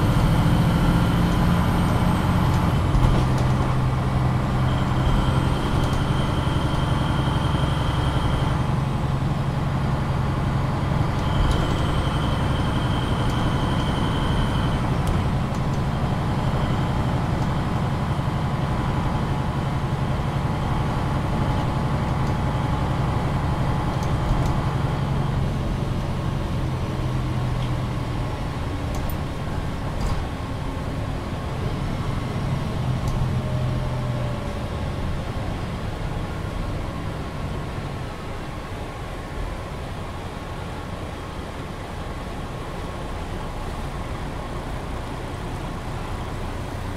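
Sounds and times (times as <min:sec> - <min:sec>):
bus engine drone: 0:00.0 - 0:46.9
road and cabin noise: 0:00.0 - 0:46.9.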